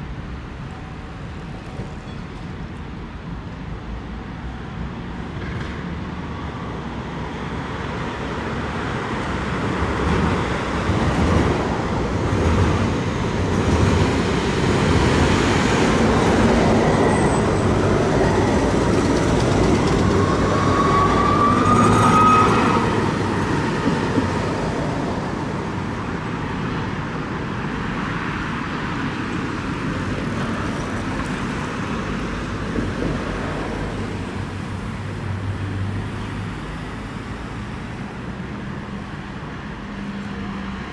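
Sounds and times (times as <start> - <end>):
road traffic: 0.0 - 40.9
tram passing close by: 0.0 - 40.9.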